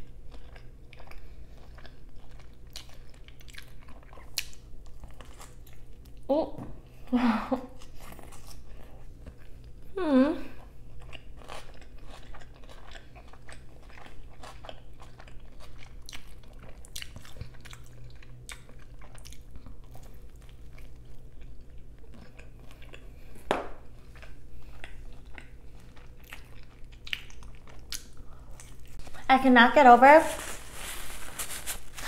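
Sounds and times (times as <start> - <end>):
chewing and crunching crust: 0.0 - 6.3, 7.7 - 29.3.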